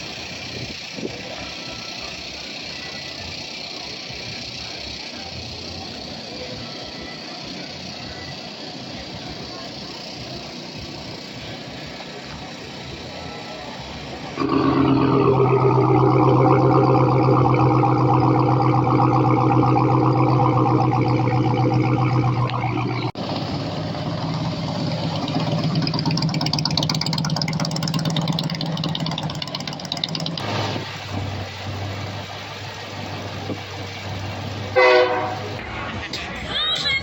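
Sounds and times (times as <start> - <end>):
engine with fluttering rattle: 0.0 - 13.2, 14.0 - 34.8
engine holding steady note: 0.0 - 36.3.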